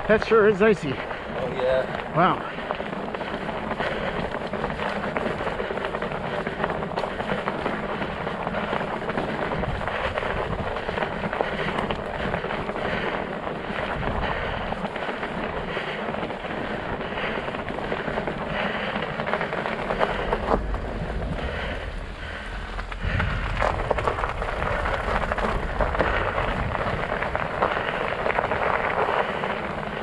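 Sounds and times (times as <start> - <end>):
studded tires on ice and snow: 0.0 - 30.0.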